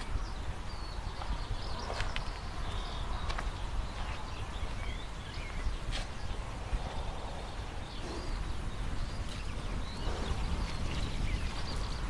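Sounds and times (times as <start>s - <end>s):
small birds chirping: 0.0s - 12.0s
wind rumble on microphone: 0.0s - 12.0s.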